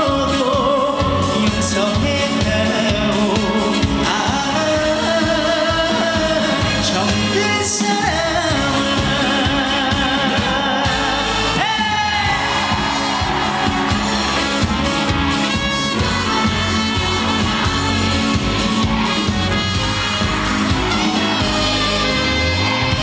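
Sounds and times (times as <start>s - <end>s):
sliding lead melody: 0.0s - 23.0s
trot band music: 0.0s - 23.0s.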